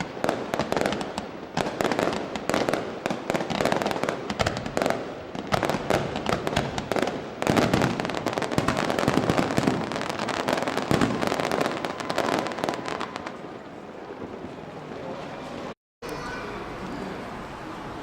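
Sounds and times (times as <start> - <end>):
fireworks crackling pops: 0.0 - 14.6.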